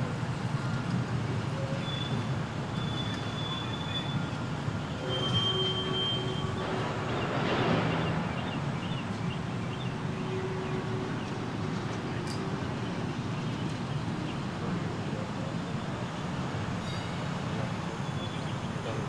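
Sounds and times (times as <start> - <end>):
distant streetcar rumbling: 0.0 - 19.0.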